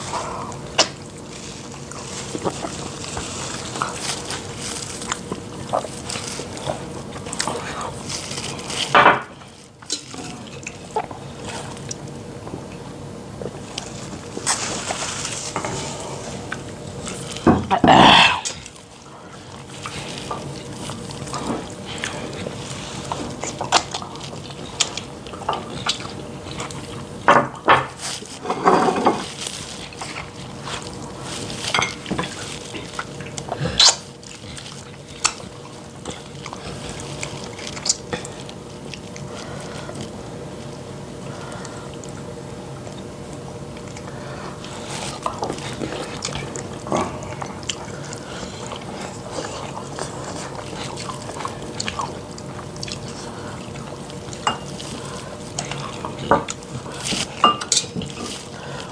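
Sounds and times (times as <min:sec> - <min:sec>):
people eating wet mouth sounds: 0:00.0 - 0:27.3, 0:27.9 - 0:58.9.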